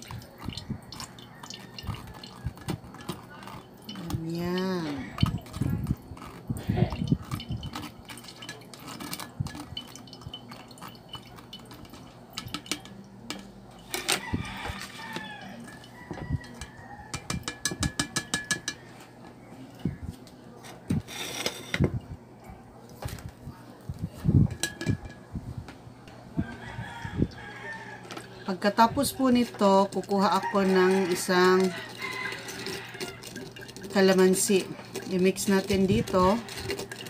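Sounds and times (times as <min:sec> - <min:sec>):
juice dripping: 0:00.0 - 0:18.0, 0:21.9 - 0:37.0
utensil scraping mesh strainer: 0:00.0 - 0:18.5, 0:20.6 - 0:21.9, 0:26.5 - 0:37.0.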